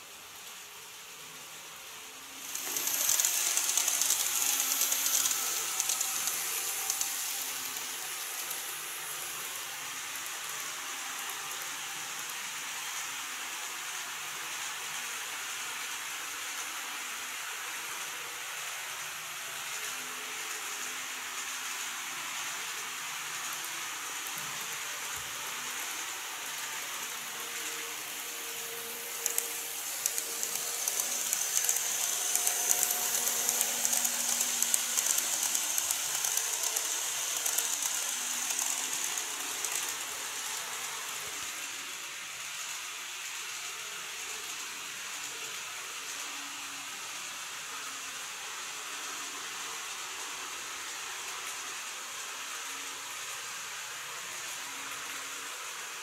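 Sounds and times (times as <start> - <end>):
model train running on track: 0.0 - 56.0.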